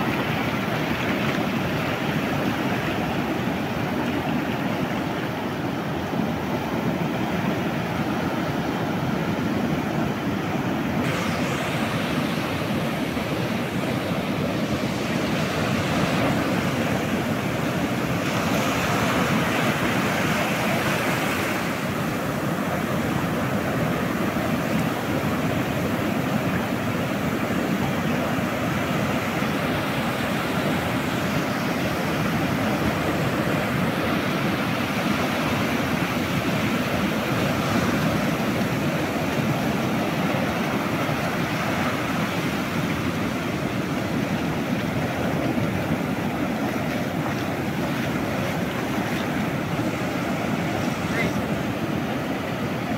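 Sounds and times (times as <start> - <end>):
surf breaking over shallows: 0.0 - 52.9
wind rumbling on microphone: 0.0 - 52.9.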